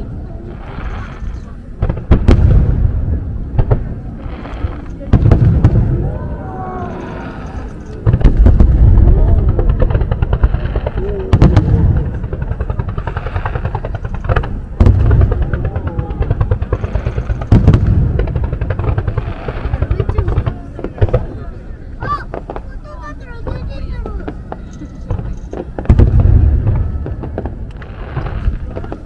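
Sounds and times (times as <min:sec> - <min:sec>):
crowd voices: 0:00.0 - 0:29.0
fireworks booming and crackling: 0:00.0 - 0:29.0.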